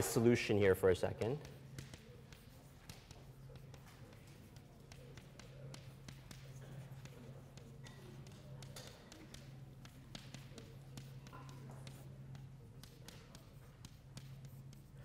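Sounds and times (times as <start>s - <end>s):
low room hum: 0.0s - 15.0s
chalk tapping and scraping on chalkboard: 0.8s - 15.0s.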